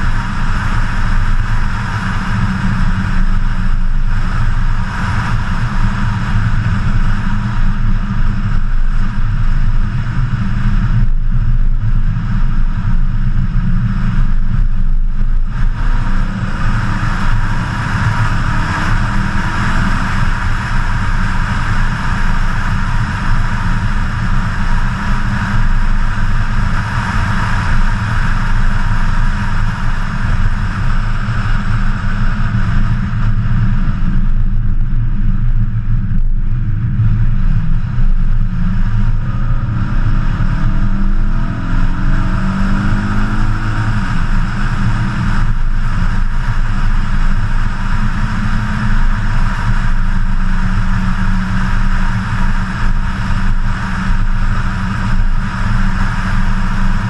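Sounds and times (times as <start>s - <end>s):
car engine running: 0.0s - 57.0s
wind and tyre noise: 0.0s - 57.0s.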